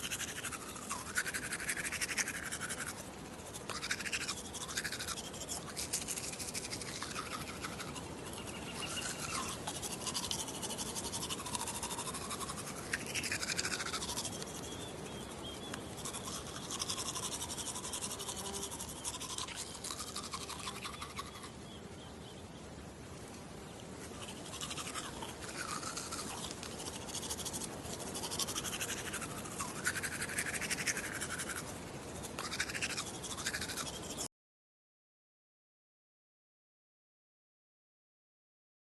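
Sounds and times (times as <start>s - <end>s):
toothbrush scrubbing: 0.0s - 21.5s, 24.0s - 34.3s.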